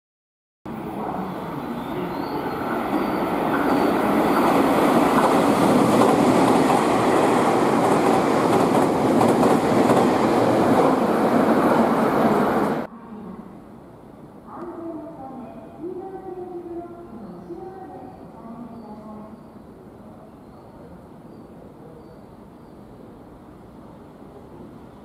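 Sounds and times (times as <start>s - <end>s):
train wheel and rail noise: 0.7s - 25.0s.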